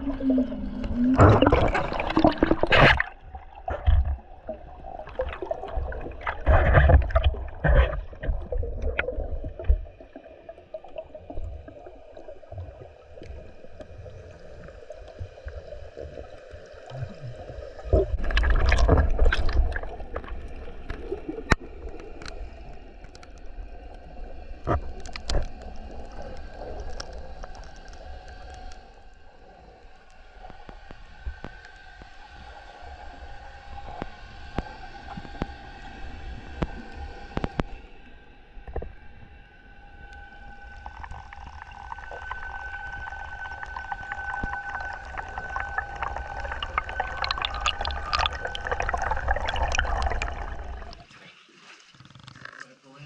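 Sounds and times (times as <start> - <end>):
exhaled bubbles gurgling underwater: 0.0 - 31.6, 40.2 - 51.1
faint steady underwater murmur: 0.0 - 53.0.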